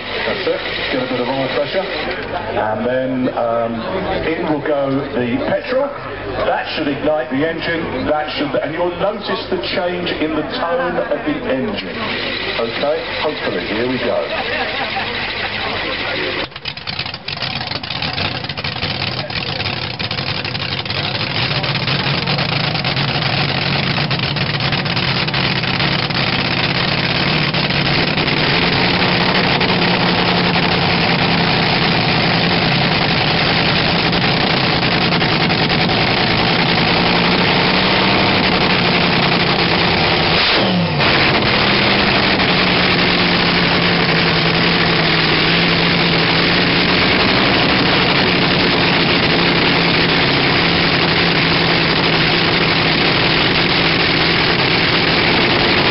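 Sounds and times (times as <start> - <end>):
dragster engine idling: 0.0 - 2.6, 11.0 - 55.9.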